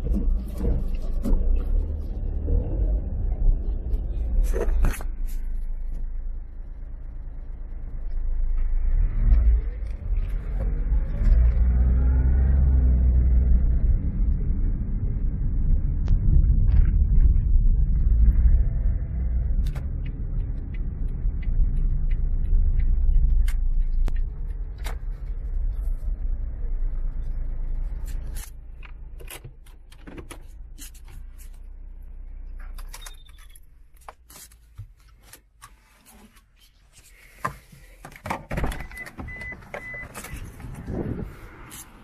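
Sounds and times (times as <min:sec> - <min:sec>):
car rumbling while driving: 0:00.0 - 0:42.0.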